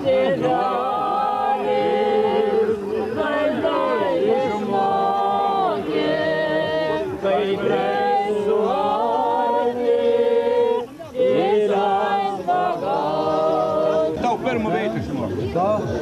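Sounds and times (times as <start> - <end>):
group singing unaccompanied: 0.0 - 16.0.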